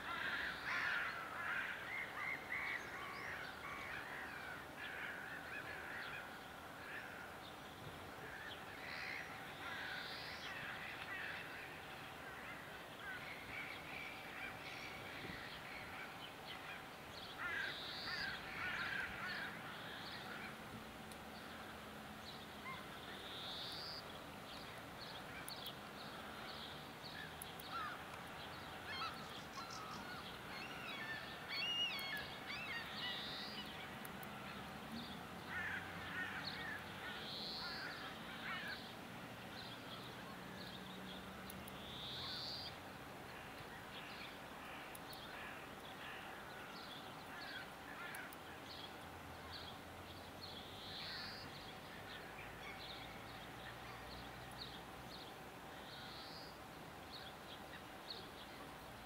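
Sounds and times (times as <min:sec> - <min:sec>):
wild birds chirping and trilling: 0:00.0 - 0:59.0.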